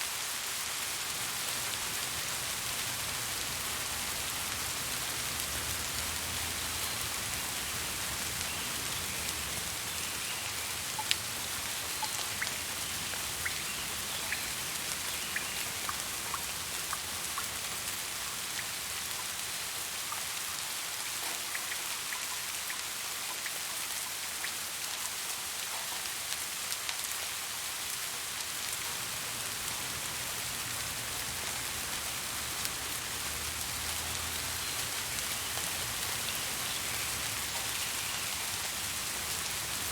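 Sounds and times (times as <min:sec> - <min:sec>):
steady rain hissing: 0:00.0 - 0:39.9
raindrops ticking on a surface: 0:00.1 - 0:39.9.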